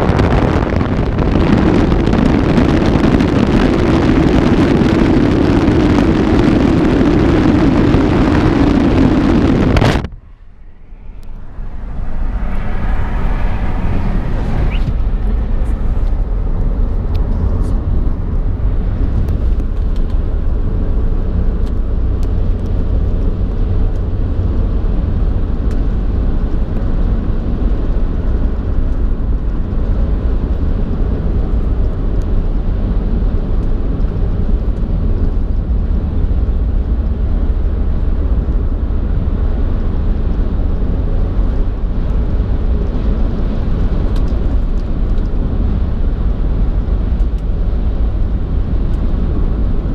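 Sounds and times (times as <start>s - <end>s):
vehicle driving on road: 0.0s - 49.9s.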